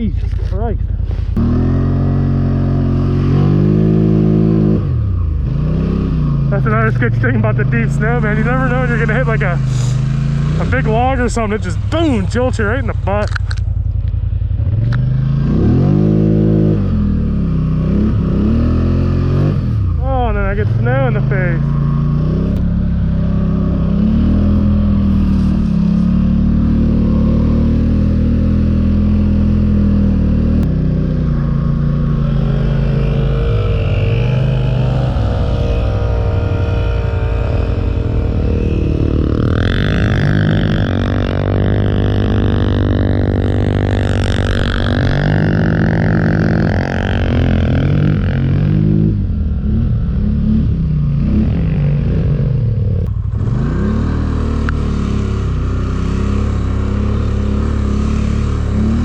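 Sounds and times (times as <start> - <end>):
atv engine revving: 0.0 - 59.0
high engine whine: 0.0 - 59.0.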